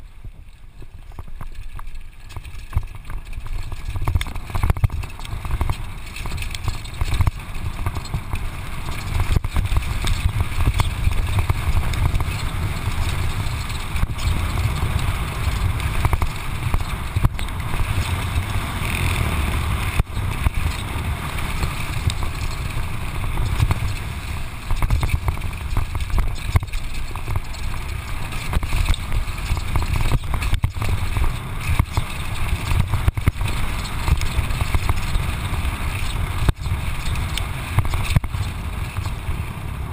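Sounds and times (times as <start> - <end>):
bike knocking and rattling: 0.0 - 39.9
tyre noise on gravel: 0.0 - 39.9
wind rumble on microphone: 0.0 - 39.9.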